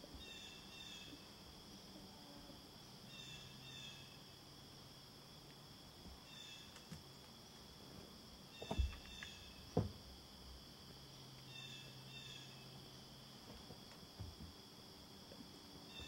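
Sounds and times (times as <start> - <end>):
insect buzz: 0.0 - 16.0.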